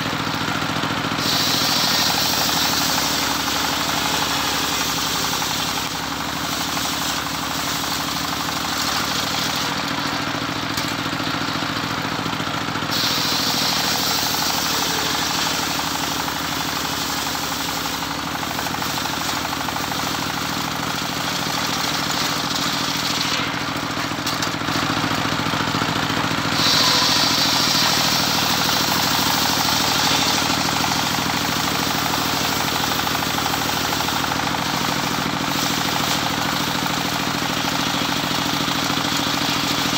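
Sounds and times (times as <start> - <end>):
saw engine running: 0.0 - 39.9
saw blade cutting wood: 1.1 - 11.8, 12.9 - 39.9.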